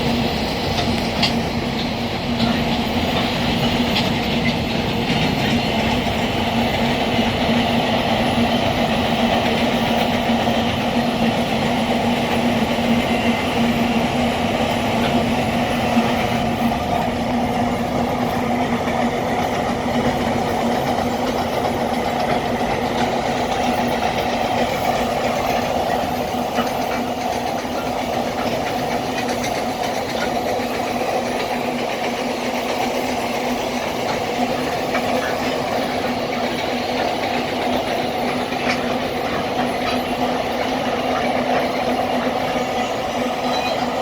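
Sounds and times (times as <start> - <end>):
freight train rumbling on rails: 0.0 - 44.0.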